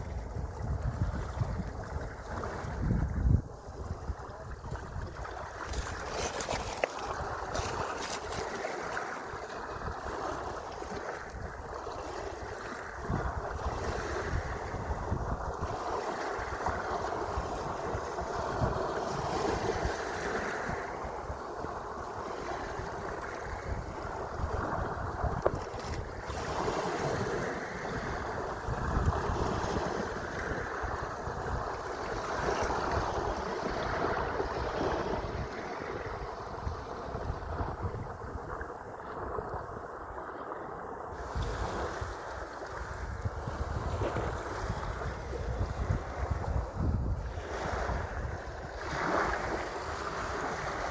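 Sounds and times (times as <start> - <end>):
sea waves washing: 0.0 - 50.9
wind buffeting microphone: 0.0 - 50.9.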